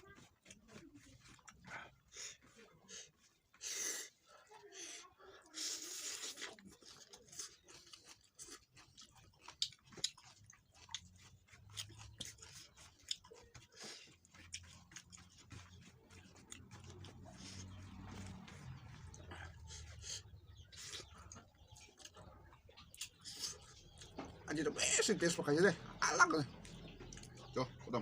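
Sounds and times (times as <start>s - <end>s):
person chewing food: 0.0s - 24.5s, 26.5s - 28.0s.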